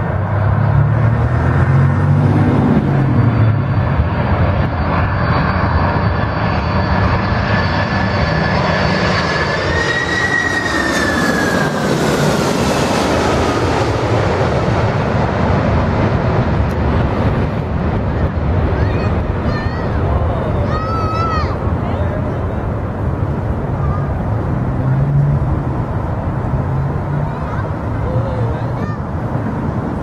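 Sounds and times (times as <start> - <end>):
jet engines passing overhead: 0.0 - 30.0.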